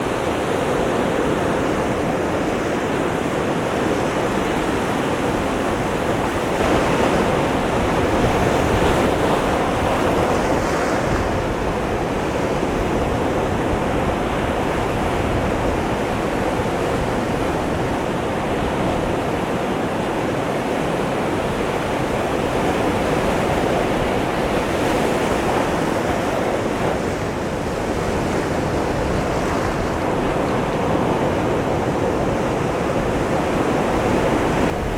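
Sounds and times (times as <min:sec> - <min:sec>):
ocean surf on rocks: 0:00.0 - 0:34.9.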